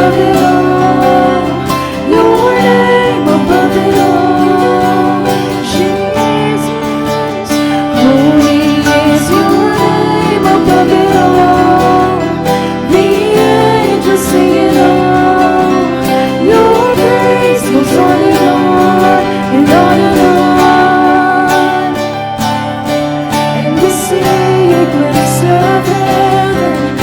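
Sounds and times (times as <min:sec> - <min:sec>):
worship music with guitar: 0:00.0 - 0:27.0.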